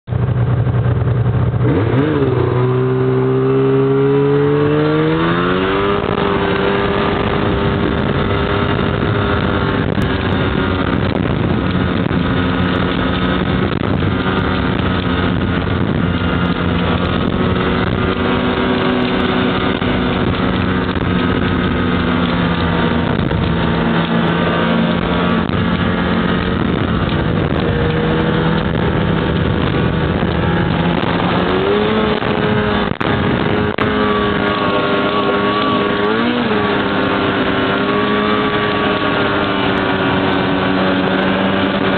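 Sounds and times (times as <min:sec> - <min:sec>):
snowmobile engine accelerating: 0:00.1 - 0:41.9.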